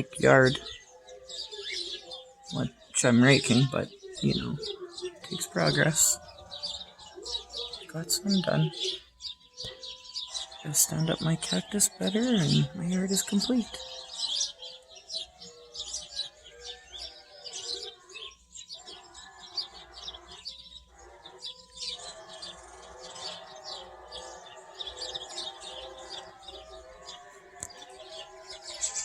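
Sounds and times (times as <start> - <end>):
sparrows chirping: 0.0 - 29.0.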